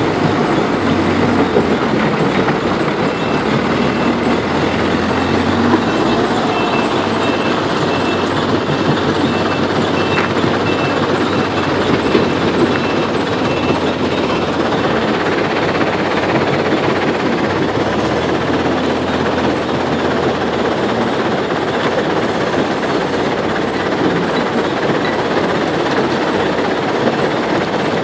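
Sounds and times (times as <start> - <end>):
reversing alarm beeping: 0.0 - 25.6
heavy machinery running: 0.0 - 28.0.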